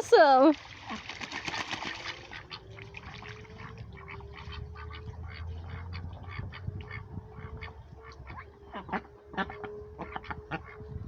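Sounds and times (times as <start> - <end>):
ducks quacking: 0.9 - 10.8.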